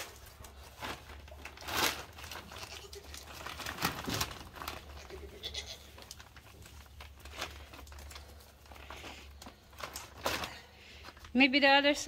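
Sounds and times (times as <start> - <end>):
paper sack rustling: 0.0 - 12.0.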